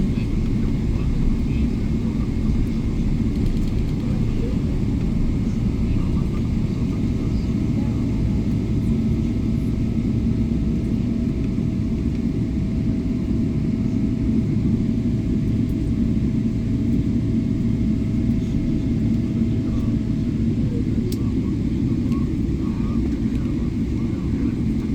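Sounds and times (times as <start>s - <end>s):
faint engine whine: 0.0s - 24.9s
jet engines rumbling: 0.0s - 24.9s.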